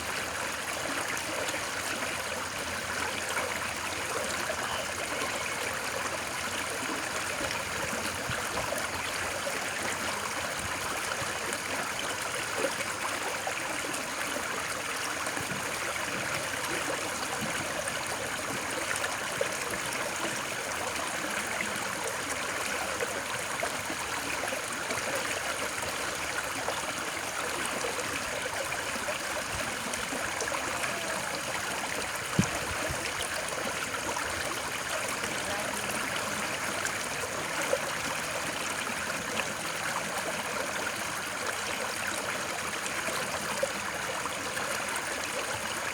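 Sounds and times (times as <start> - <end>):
flowing stream: 0.0 - 45.9.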